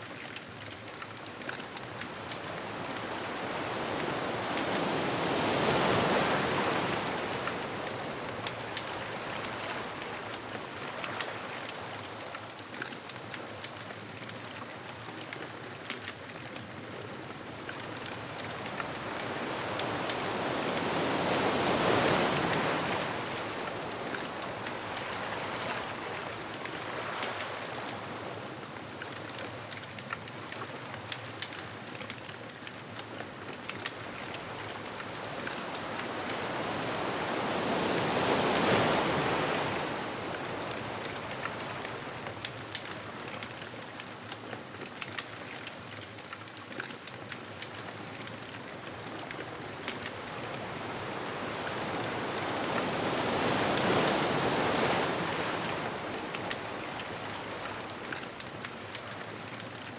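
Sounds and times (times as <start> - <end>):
bonfire crackling: 0.0 - 59.9
ocean waves washing onto beach: 0.0 - 59.9.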